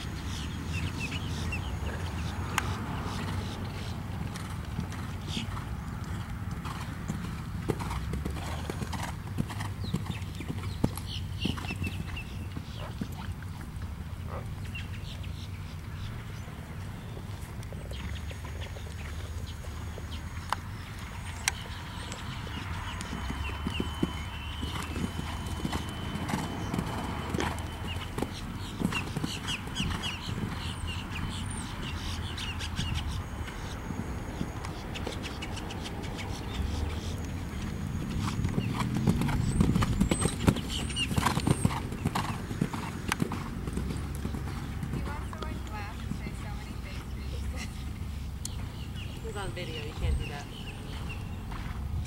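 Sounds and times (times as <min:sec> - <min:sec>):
horse hooves on sand: 0:00.0 - 0:15.2, 0:15.8 - 0:52.0.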